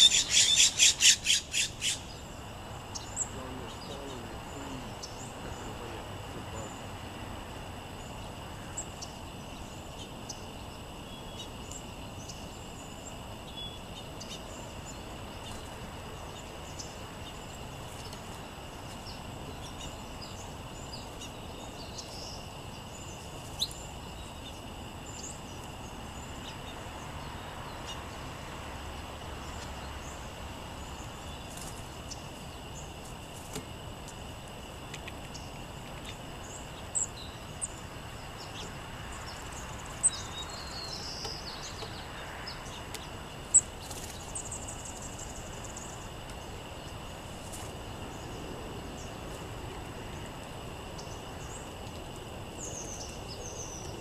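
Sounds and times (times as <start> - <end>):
outdoor background hiss: 0.0 - 54.0
songbirds chirping: 0.0 - 54.0.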